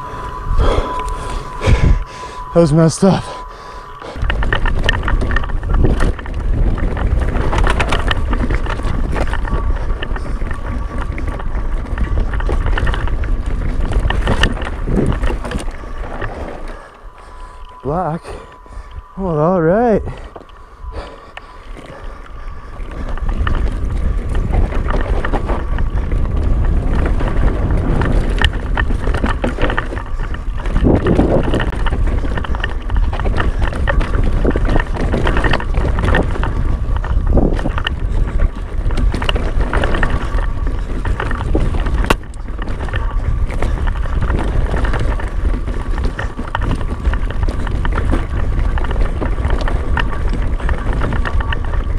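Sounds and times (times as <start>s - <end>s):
mountain bike rumble and rattle: 0.0s - 51.9s
wind buffeting microphone: 0.0s - 51.9s.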